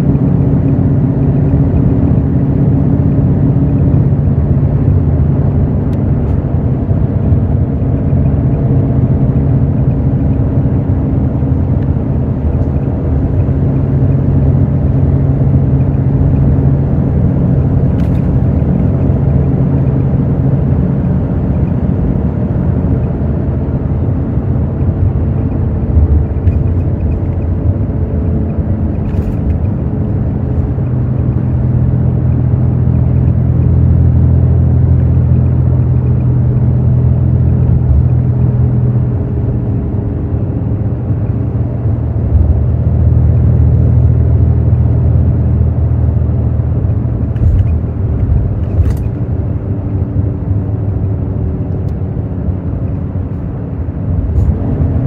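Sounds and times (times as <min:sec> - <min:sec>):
bus diesel engine drone: 0:00.0 - 0:55.0
road rumble: 0:00.0 - 0:55.0.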